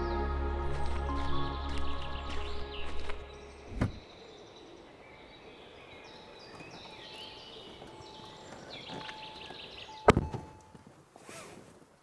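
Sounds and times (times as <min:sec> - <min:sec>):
birds chirping and trilling: 0:00.0 - 0:10.2.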